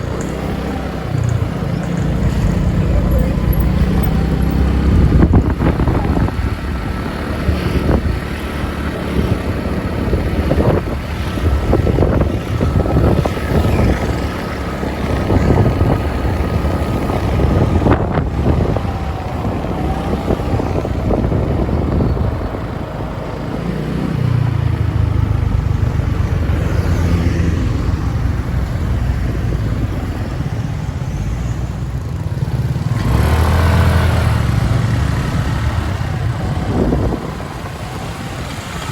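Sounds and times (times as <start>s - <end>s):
motorbike engine running: 0.0s - 38.9s.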